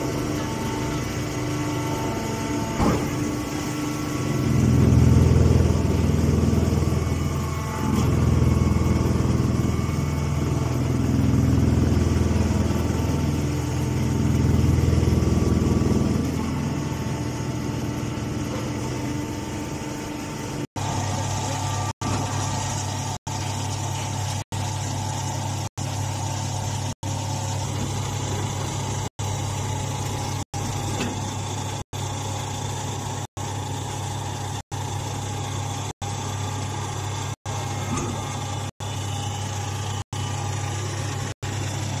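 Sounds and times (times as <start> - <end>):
baler power unit humming: 0.0 - 42.0.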